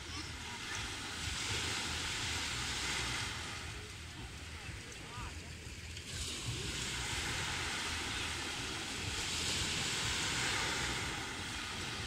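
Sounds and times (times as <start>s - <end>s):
small waves washing ashore: 0.0s - 12.0s
wind rumble on microphone: 0.0s - 12.0s.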